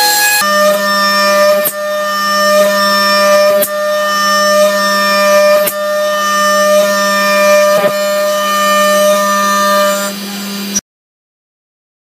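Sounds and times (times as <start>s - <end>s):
milling machine whine: 0.0s - 10.8s.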